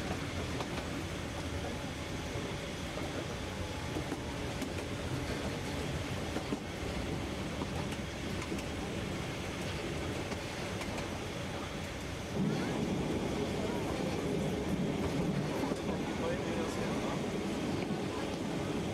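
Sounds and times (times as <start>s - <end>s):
train carriage rumbling: 0.0s - 18.9s.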